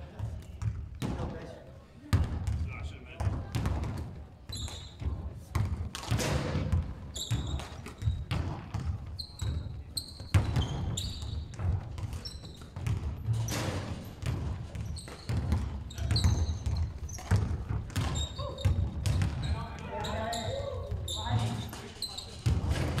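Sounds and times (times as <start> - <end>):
basketball bouncing on wooden floor: 0.2 - 1.2, 2.1 - 23.0
sneakers squeaking: 2.2 - 23.0.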